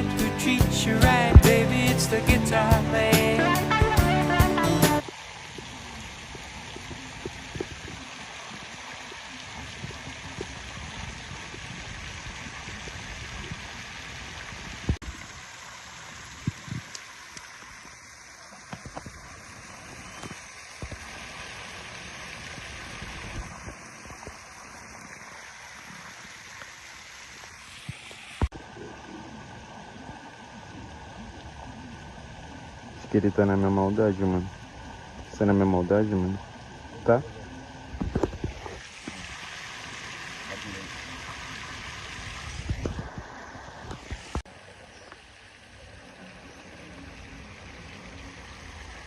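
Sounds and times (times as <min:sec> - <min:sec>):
flowing water rushing: 0:00.0 - 0:49.0.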